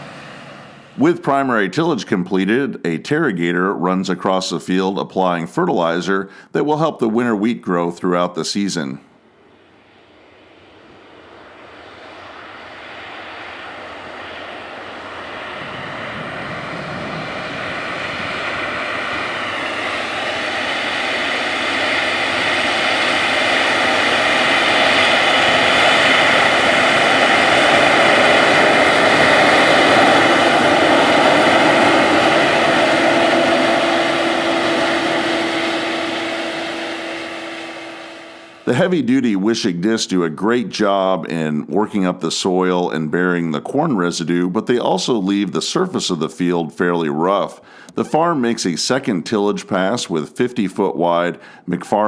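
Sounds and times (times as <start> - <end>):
airplane engine and propeller: 0.0 - 52.0.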